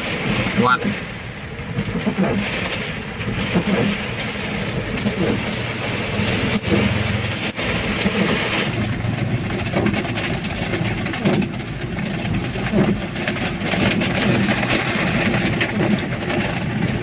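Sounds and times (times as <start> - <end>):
car engine hum: 0.0 - 17.0
heavy rain and wind: 0.0 - 17.0.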